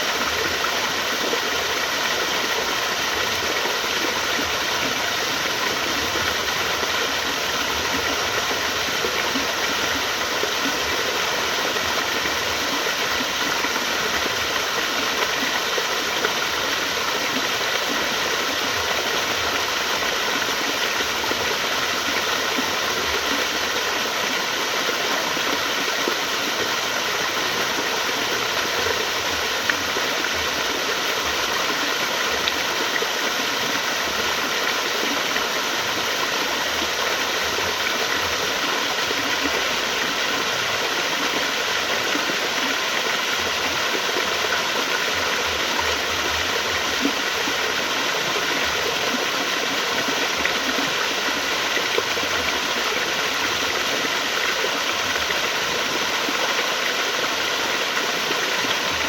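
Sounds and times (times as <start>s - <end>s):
water flowing steadily: 0.0s - 59.0s.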